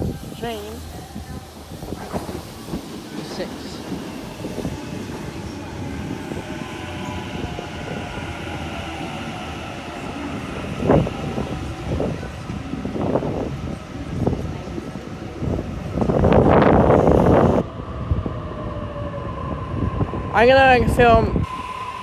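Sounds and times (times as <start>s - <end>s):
train rail rumble: 0.0s - 22.0s.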